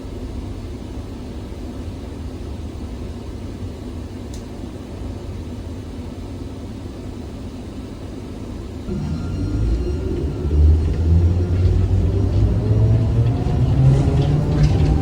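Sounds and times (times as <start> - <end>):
low rumble inside trolleybus: 0.0 - 15.0.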